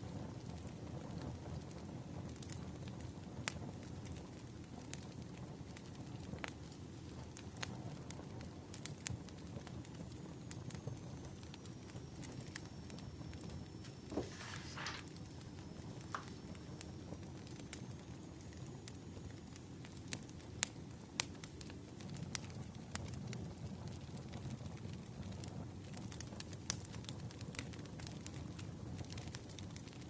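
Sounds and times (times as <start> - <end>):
firewood crackling and popping: 0.0 - 30.0
low fire rumble: 0.0 - 30.0.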